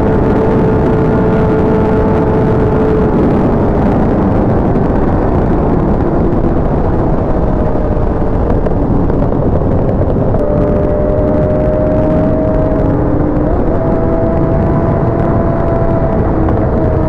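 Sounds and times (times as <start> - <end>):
motorcycle engine running: 0.0 - 17.0
wind rush: 0.0 - 17.0.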